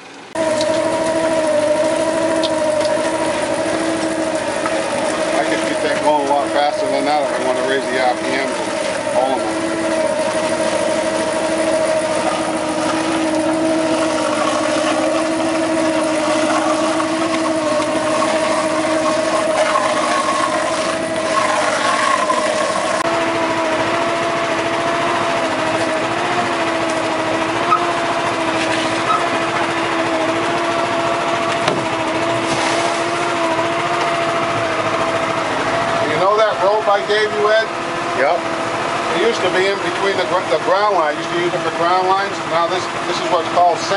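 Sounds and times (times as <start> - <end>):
boat engine droning: 0.0 - 43.9.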